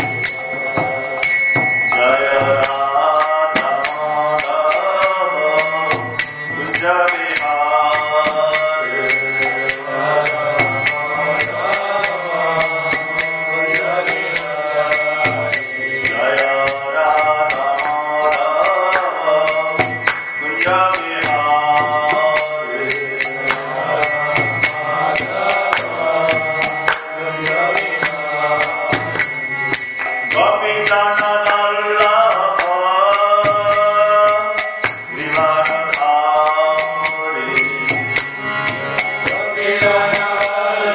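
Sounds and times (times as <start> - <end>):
hand cymbals clashing: 0.0 - 40.9
man singing a chant: 0.0 - 40.9.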